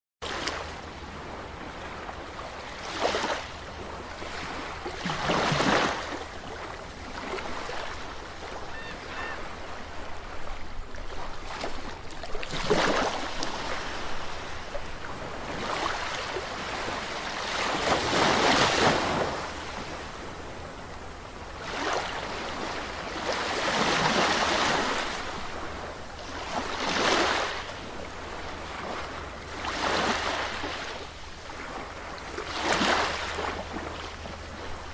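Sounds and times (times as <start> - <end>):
waves breaking on sandy shore: 0.2 - 34.9.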